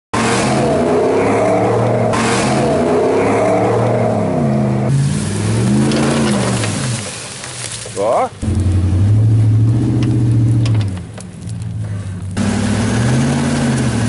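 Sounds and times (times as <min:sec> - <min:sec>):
truck engines revving: 0:00.1 - 0:14.0
tyres spinning in snow and mud: 0:00.2 - 0:14.0.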